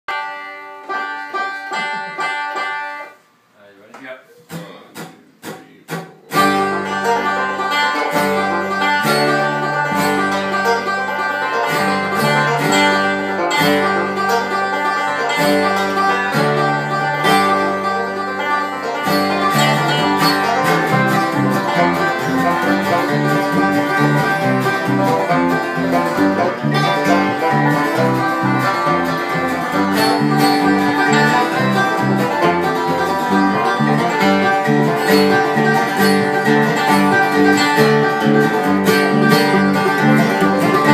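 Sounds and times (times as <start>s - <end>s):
banjo: 0.1s - 3.2s, 4.4s - 40.9s
acoustic guitar: 0.1s - 3.4s, 4.3s - 40.9s
bluegrass band playing: 0.1s - 3.4s, 4.3s - 40.9s
low bass notes: 6.4s - 40.9s.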